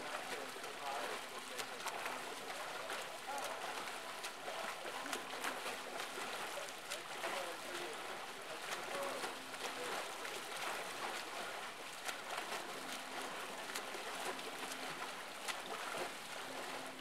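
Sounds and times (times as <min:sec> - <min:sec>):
arm strokes slapping water: 0:00.0 - 0:17.0
water splashing and churning: 0:00.0 - 0:17.0.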